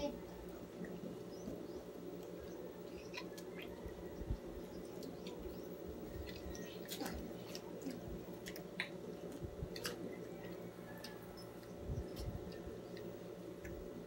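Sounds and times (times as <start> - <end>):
steady low hum: 0.0 - 14.0
people chewing food: 0.4 - 14.0.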